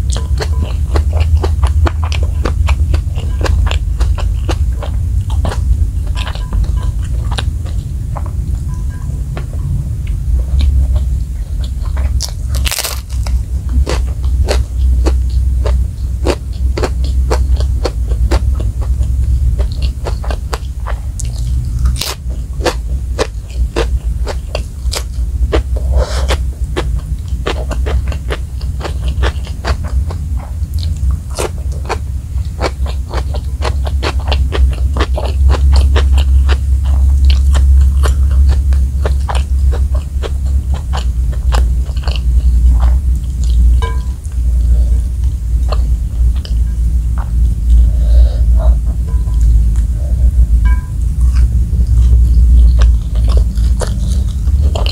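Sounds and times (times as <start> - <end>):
crunching and chewing food: 0.0 - 54.9
low hum: 0.0 - 54.9.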